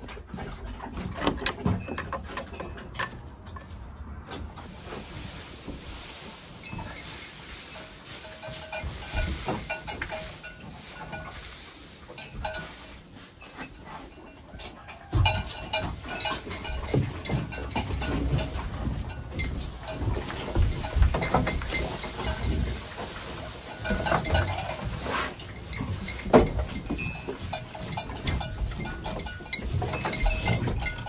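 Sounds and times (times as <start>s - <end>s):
dry hay rustling and crackling: 3.5s - 31.0s.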